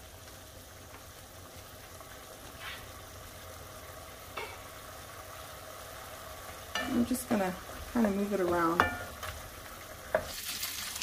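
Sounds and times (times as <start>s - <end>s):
steaks sizzling in a pan: 0.0s - 11.0s.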